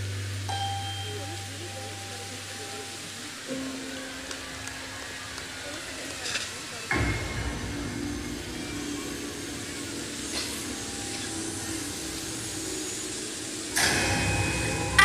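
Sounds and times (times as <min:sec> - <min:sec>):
fountain jets spraying hiss: 0:00.0 - 0:15.0.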